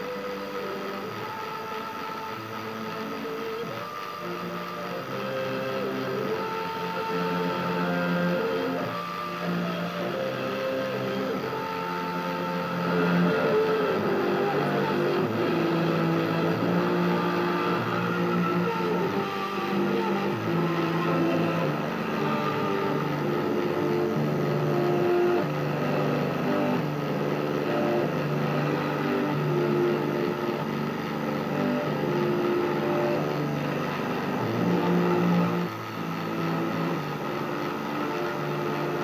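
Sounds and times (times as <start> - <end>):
music through a loudspeaker: 0.0 - 39.0.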